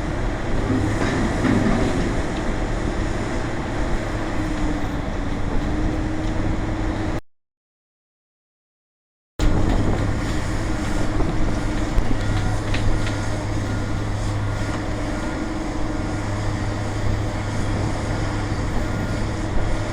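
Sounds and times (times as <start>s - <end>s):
heavy machinery engine humming: 0.0s - 7.2s, 9.4s - 19.9s.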